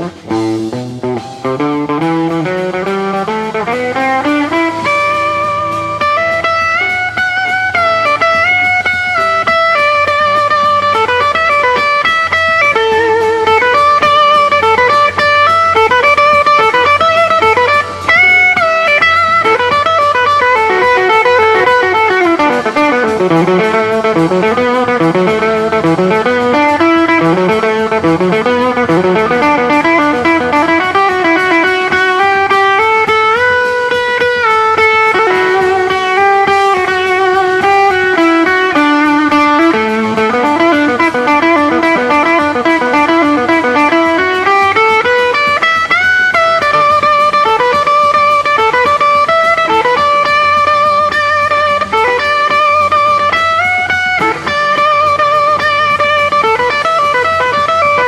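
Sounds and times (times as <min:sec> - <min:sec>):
electric guitar lead melody: 0:00.0 - 0:58.0.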